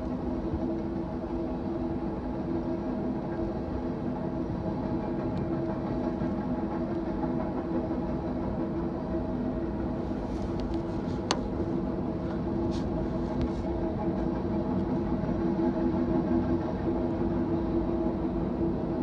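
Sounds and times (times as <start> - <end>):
train wheels on rail: 0.0 - 19.0.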